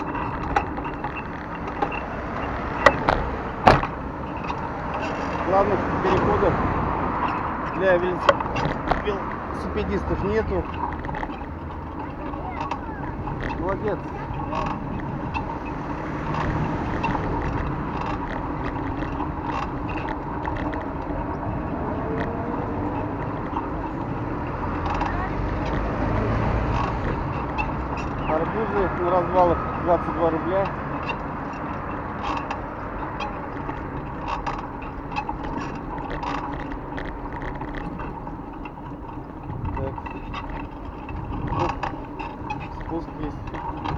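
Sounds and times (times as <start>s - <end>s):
bicycle saddle creaking: 0.0s - 43.9s
road noise: 0.0s - 43.9s
wind and rolling noise: 0.0s - 43.9s.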